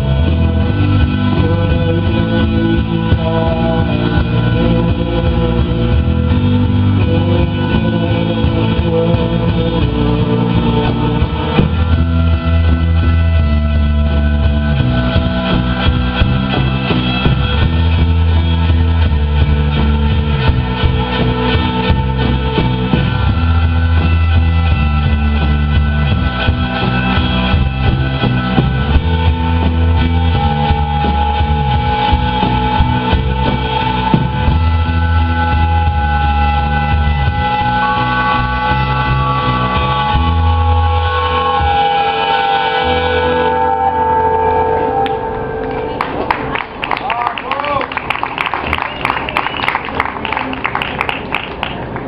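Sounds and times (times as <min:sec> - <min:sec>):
live rock band playing: 0:00.0 - 0:47.0
electric guitar: 0:00.0 - 0:52.0.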